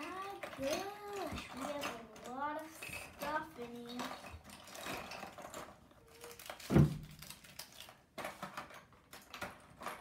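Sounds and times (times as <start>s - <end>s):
plastic toys clicking and clattering: 0.0s - 10.0s.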